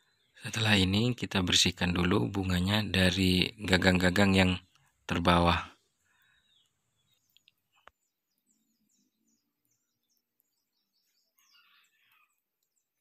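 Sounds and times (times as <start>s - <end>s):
faint bird chirps: 0.0s - 2.0s, 4.4s - 13.0s.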